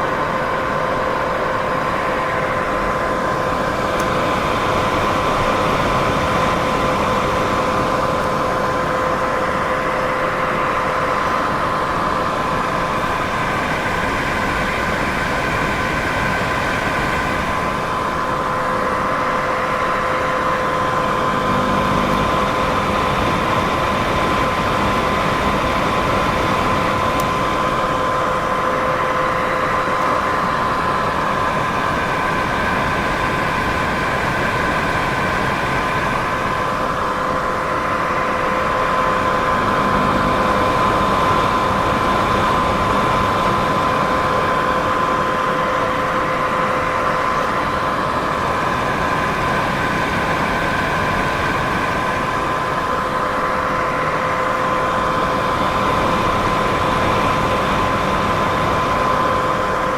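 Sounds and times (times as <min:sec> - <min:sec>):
steady white noise: 0:00.0 - 0:59.9.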